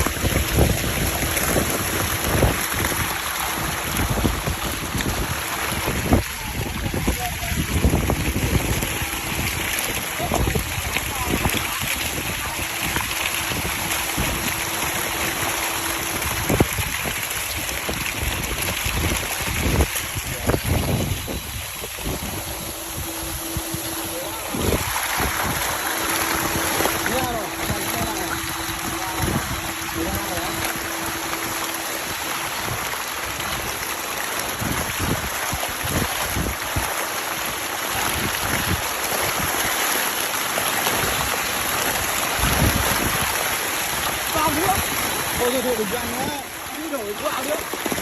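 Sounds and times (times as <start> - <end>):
faint steady hum: 0.0 - 48.0
water splashing and churning: 0.0 - 48.0.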